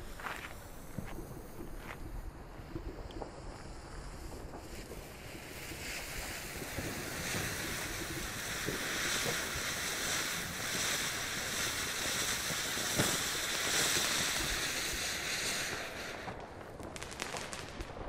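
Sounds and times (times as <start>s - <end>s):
firework fountain hissing: 0.0s - 18.0s
sharp firework pops: 0.0s - 18.0s.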